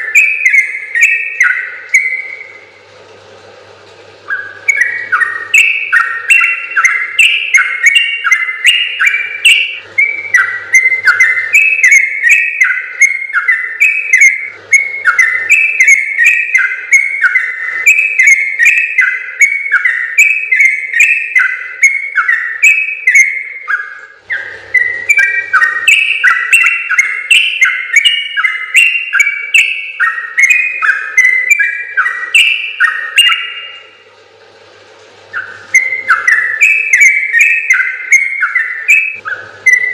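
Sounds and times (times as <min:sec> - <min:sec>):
bird singing bubbly whistled notes: 0:00.0 - 0:02.8, 0:04.2 - 0:34.0, 0:35.3 - 0:39.9.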